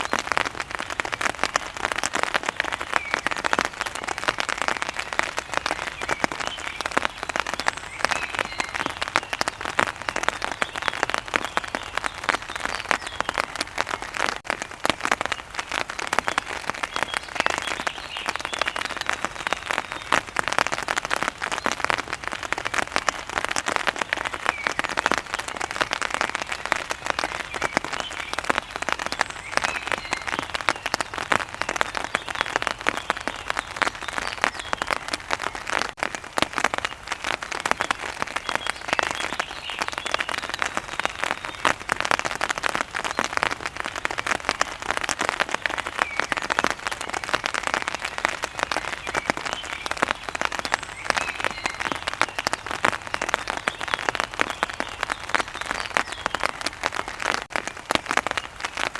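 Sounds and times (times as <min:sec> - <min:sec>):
rain on a hard surface: 0:00.0 - 0:58.9.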